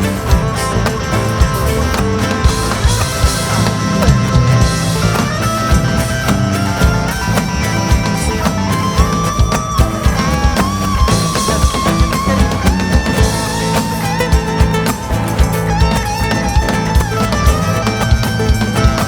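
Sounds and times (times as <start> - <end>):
drum kit beat: 0.0 - 19.0
guitar: 0.0 - 19.0
lead melody of bending notes: 0.0 - 19.0.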